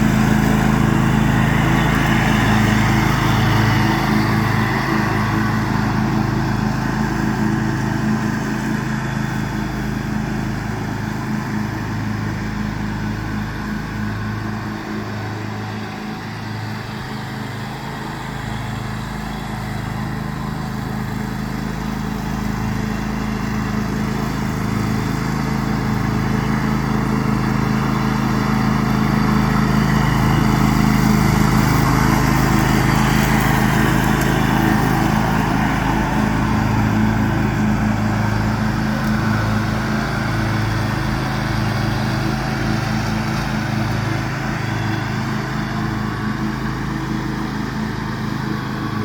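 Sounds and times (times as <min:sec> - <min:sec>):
lawn tractor engine running: 0:00.0 - 0:49.0.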